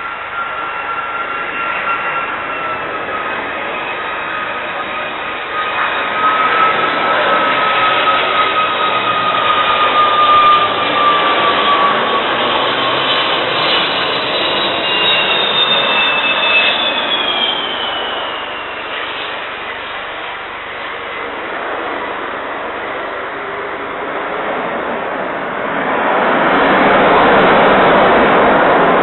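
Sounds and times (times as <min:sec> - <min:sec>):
jet engines roaring with high whine: 0:00.0 - 0:29.0.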